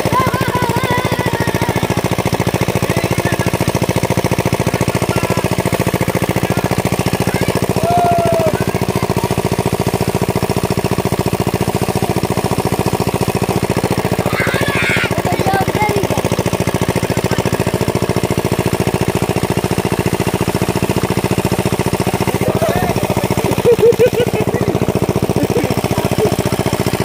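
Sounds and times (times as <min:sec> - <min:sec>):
pump engine chugging: 0:00.0 - 0:27.0.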